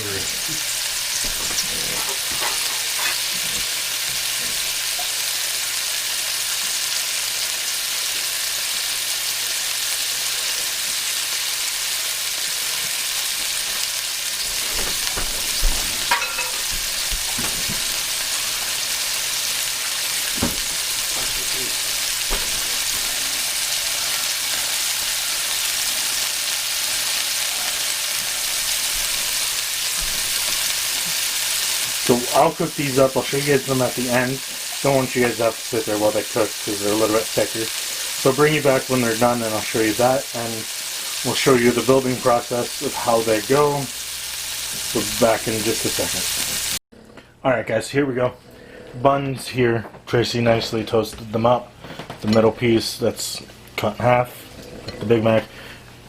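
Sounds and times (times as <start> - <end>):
burgers sizzling in a pan: 0.0 - 46.8.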